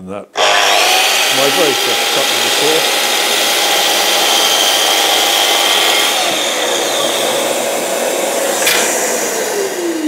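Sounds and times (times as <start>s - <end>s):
dust extractor hissing: 0.4s - 10.0s
mitre saw cutting wood: 0.4s - 10.0s.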